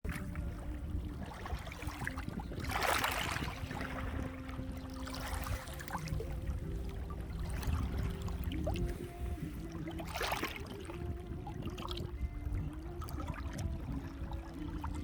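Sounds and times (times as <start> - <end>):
sea waves washing on shore: 0.1 - 15.0.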